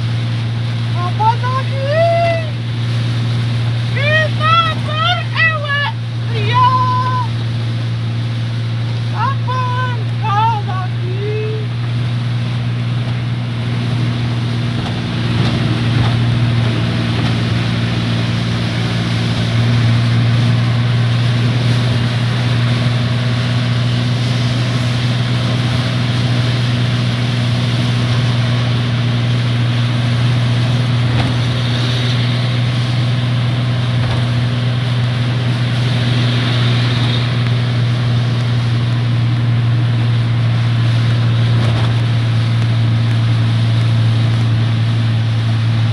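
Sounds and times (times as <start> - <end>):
constant low hum: 0.0 - 45.9.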